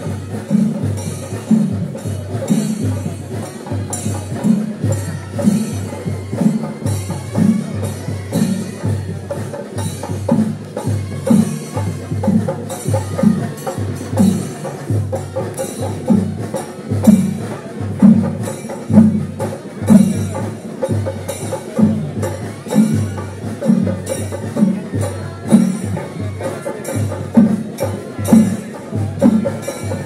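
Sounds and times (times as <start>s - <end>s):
loud music with percussion beat: 0.0s - 30.0s.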